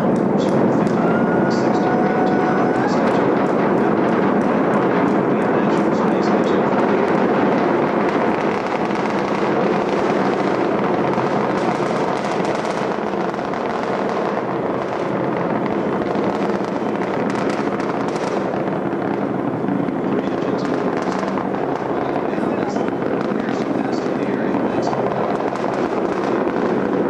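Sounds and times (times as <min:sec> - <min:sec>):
rocket launch rumble: 0:00.0 - 0:27.0.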